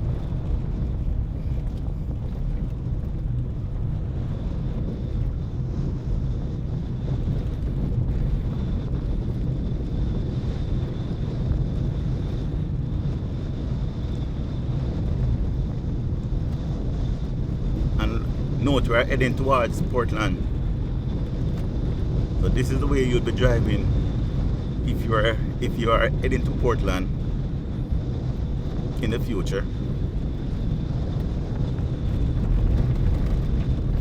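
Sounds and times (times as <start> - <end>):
road and engine rumble: 0.0 - 34.0
wind buffeting: 0.0 - 34.0.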